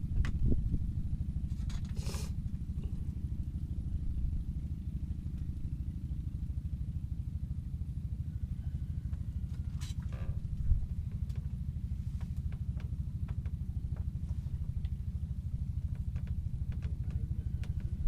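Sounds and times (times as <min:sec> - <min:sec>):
small engine chugging: 0:00.1 - 0:18.0.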